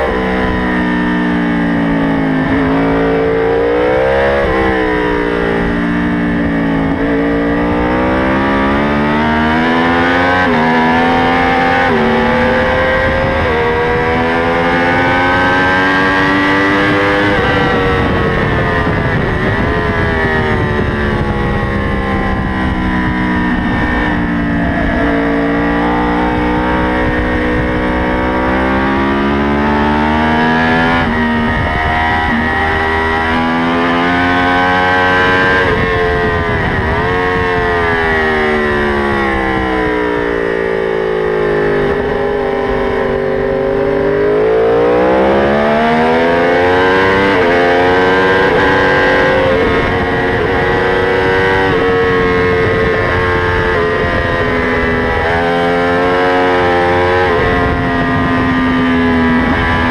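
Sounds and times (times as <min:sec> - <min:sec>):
motorcycle engine revving: 0:00.0 - 0:59.9
wind rush: 0:02.0 - 0:59.9.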